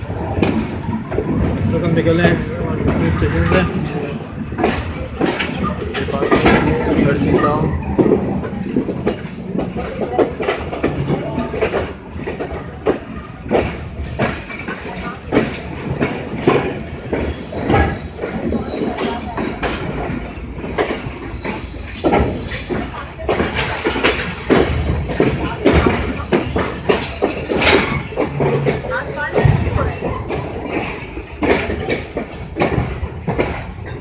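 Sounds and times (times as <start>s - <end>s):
train rumble: 0.0s - 34.0s
wheels clacking over rail joints: 0.0s - 34.0s.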